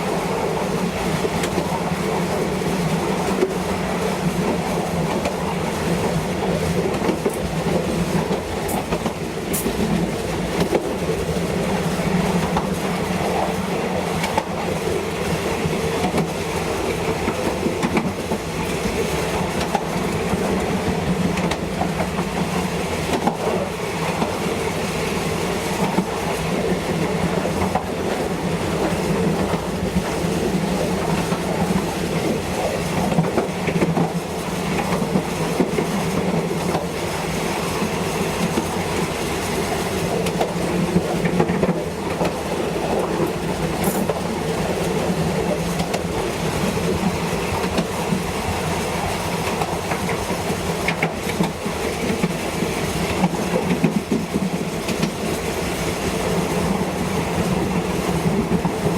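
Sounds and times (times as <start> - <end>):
clickety-clack of wheels on rails: 0.0 - 58.9
train rumbling: 0.0 - 58.9.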